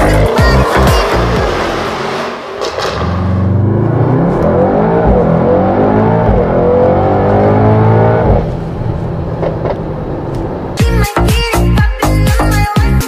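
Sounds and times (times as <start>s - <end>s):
car engine accelerating hard: 0.0s - 10.8s.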